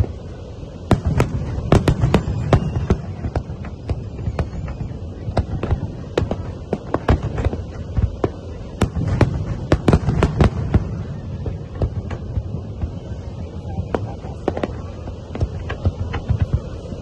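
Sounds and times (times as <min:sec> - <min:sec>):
fireworks bangs: 0:00.0 - 0:17.0
low rumble of explosions: 0:00.0 - 0:17.0.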